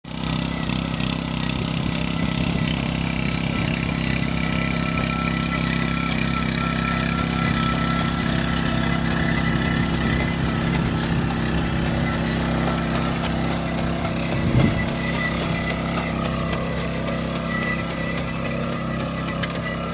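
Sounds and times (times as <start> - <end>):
tractor diesel engine running: 0.0 - 19.9.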